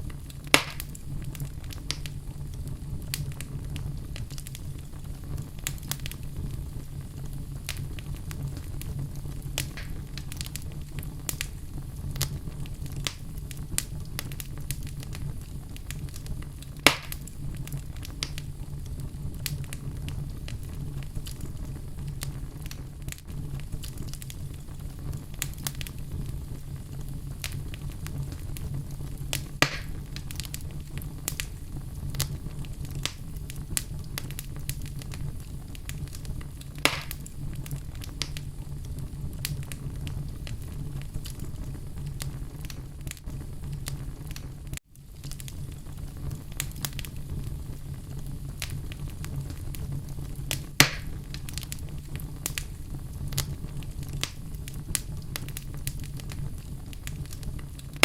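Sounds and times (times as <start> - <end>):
fire rumbling and crackling: 0.0 - 58.0
loud fire pops: 0.0 - 58.0.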